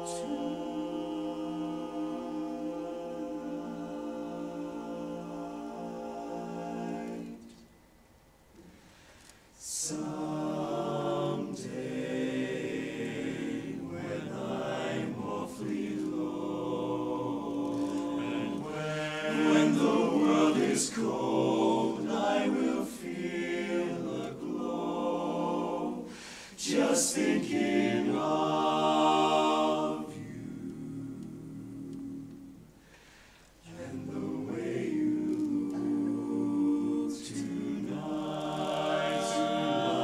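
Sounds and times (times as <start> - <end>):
male chorus singing in harmony: 0.0 - 7.8, 9.6 - 32.8, 33.6 - 40.0.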